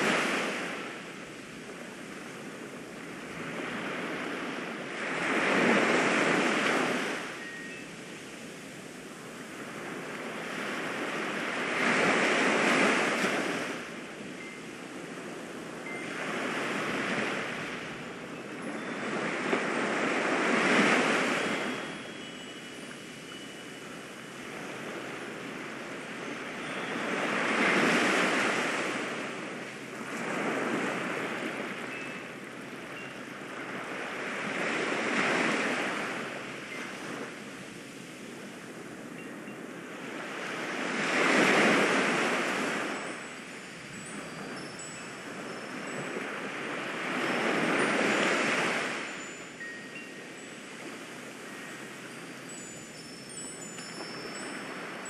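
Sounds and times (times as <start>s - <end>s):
faint wind chime tones: 0.0s - 55.0s
ocean surf washing: 0.0s - 55.0s.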